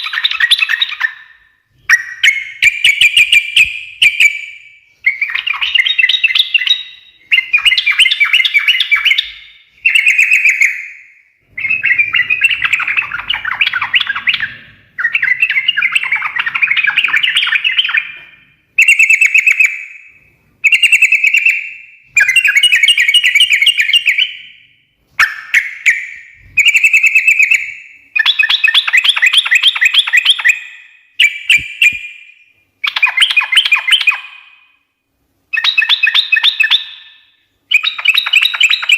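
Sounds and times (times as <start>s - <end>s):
bird chattering song: 0.0s - 34.6s, 35.5s - 38.9s.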